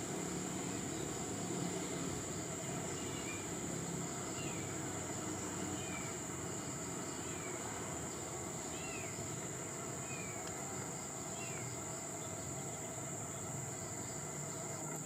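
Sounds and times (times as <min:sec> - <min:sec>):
high-pitched insect buzz: 0:00.0 - 0:15.0.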